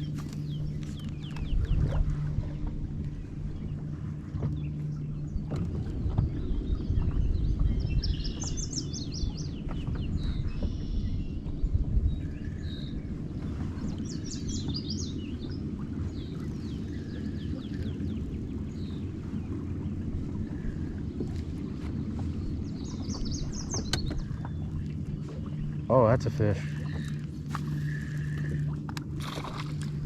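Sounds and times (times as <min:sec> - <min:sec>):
songbird singing: 0:00.0 - 0:02.2, 0:03.0 - 0:29.7
wind rumble on microphone: 0:00.0 - 0:30.0.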